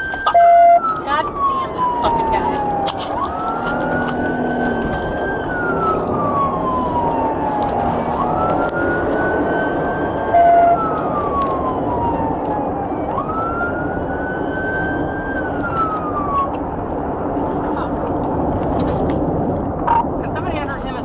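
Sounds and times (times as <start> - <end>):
engine and road noise: 0.0 - 21.0
police siren wailing: 0.0 - 21.0.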